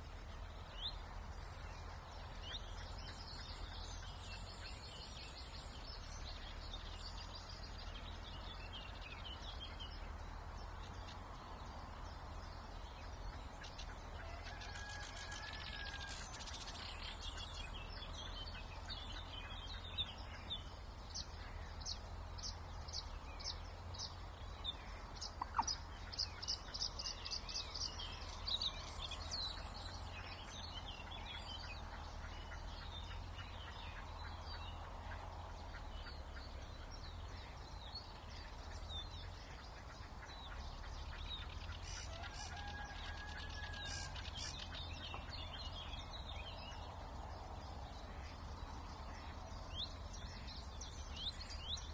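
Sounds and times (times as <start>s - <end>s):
low background rumble: 0.0s - 51.9s
songbirds singing: 0.0s - 51.9s.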